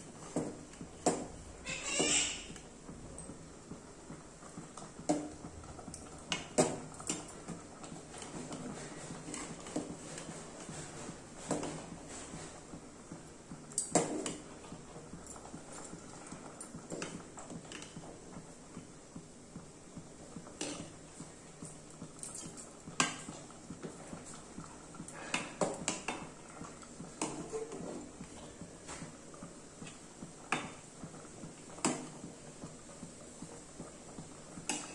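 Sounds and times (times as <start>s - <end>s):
boiling curry bubbles popping: 2.5s - 34.9s.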